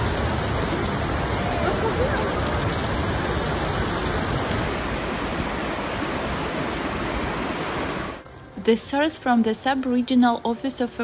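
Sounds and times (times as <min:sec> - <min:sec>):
floodwater rushing: 0:00.0 - 0:08.9.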